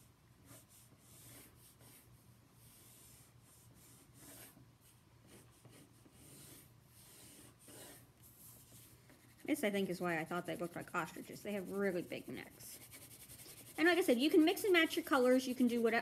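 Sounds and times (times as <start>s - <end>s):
crayon scratching on paper: 0.4s - 16.0s.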